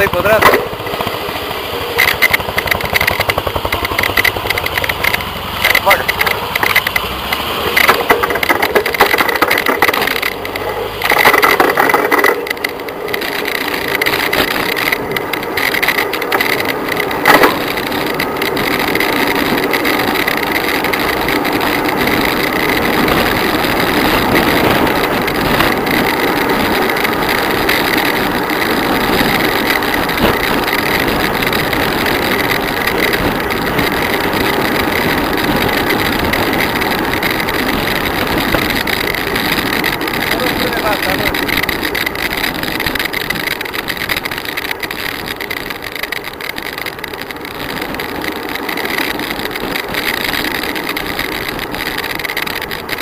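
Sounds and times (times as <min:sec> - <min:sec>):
bicycle rattling: 0:00.0 - 0:53.0
wind and road noise rushing: 0:00.0 - 0:53.0.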